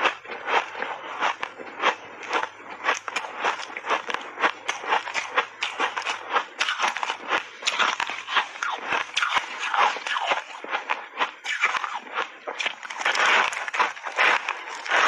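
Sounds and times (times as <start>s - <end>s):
ice being bitten and chewed: 0.0s - 15.0s.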